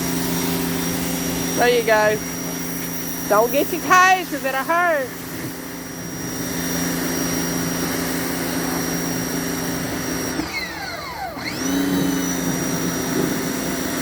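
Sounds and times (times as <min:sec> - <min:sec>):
pressure washer whine: 0:00.0 - 0:14.0.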